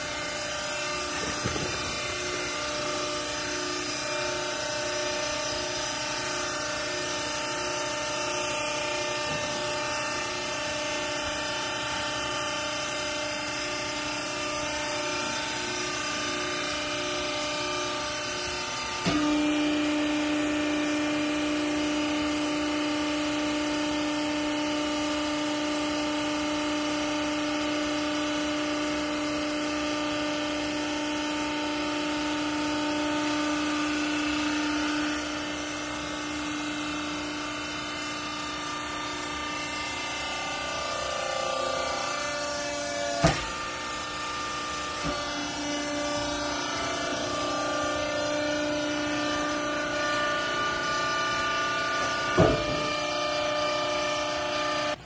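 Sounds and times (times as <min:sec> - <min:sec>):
hydraulic baler motor humming: 0:00.0 - 0:55.0.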